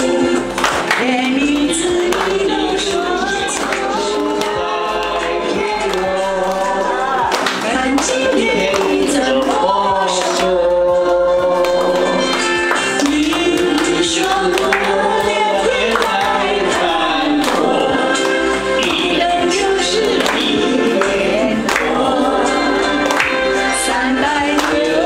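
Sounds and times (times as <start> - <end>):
group of voices singing: 0.0 - 25.0.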